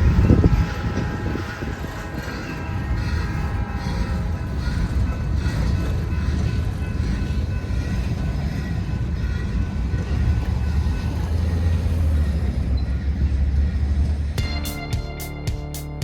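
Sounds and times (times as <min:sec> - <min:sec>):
freight train rumbling past: 0:00.0 - 0:16.0
high tones from wheels and rails: 0:00.0 - 0:16.0.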